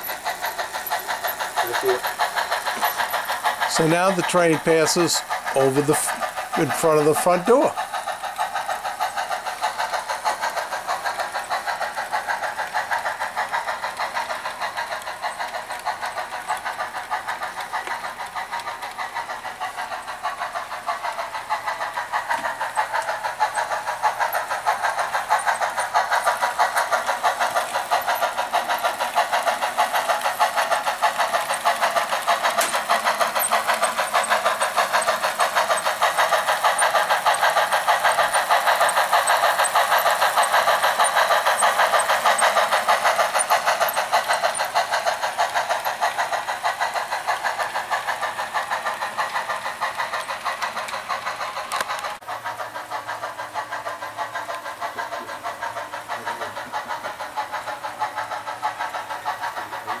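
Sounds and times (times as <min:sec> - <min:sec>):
model steam locomotive running: 0:00.0 - 1:00.0.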